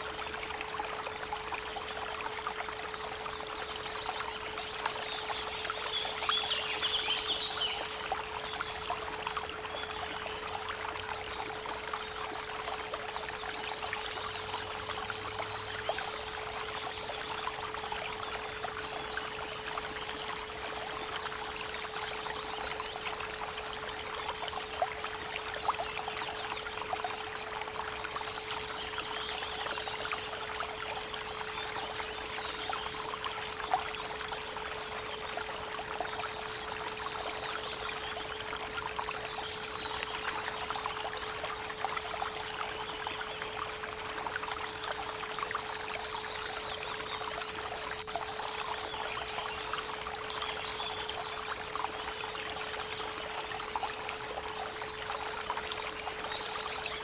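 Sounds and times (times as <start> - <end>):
creek running: 0.0 - 57.0.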